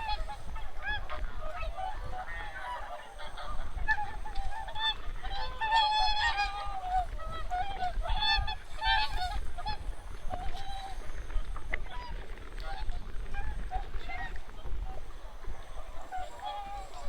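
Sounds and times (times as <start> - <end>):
geese and swans honking: 0.0 - 17.0.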